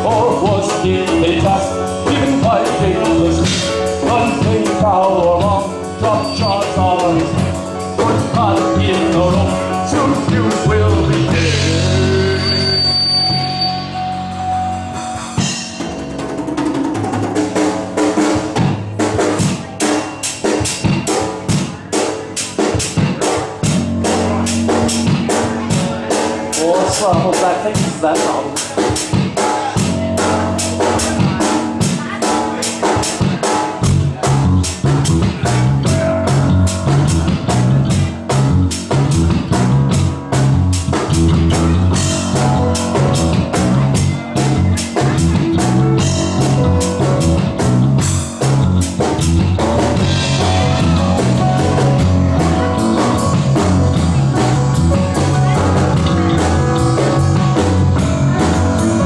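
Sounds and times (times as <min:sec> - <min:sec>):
drum kit beat: 0:00.0 - 0:12.8, 0:13.4 - 0:59.0
live rock band playing: 0:00.0 - 0:59.0.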